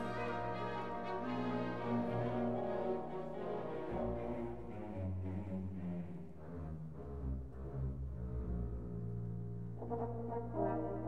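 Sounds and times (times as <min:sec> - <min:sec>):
orchestral music with low brass: 0:00.0 - 0:11.0.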